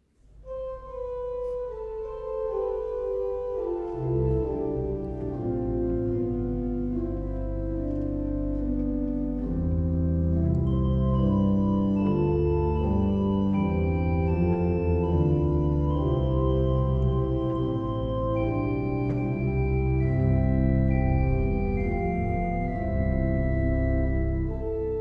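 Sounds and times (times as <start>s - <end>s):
pipe organ chords: 0.3s - 25.0s.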